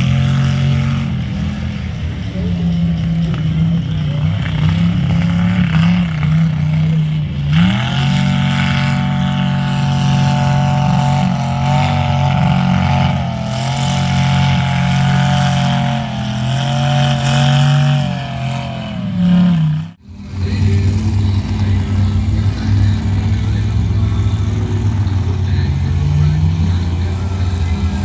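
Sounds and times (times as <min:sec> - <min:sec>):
vehicle engine at high revs: 0:00.0 - 0:28.0.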